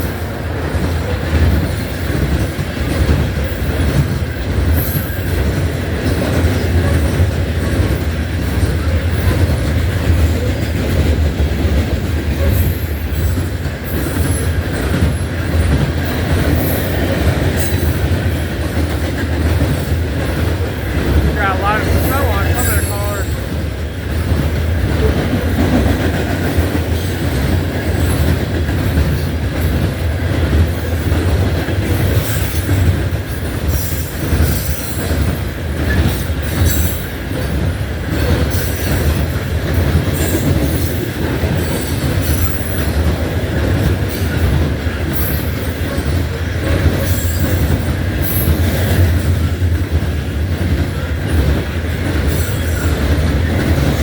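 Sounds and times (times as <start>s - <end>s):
wheels clattering on rails: 0.0s - 22.2s, 22.9s - 54.0s.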